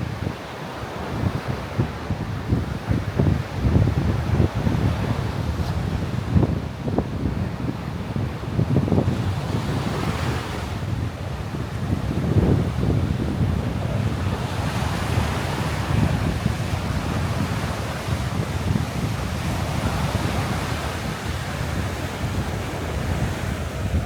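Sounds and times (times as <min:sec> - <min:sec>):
wind buffeting microphone: 0:00.0 - 0:24.0
surf washing onto sand: 0:00.7 - 0:24.0.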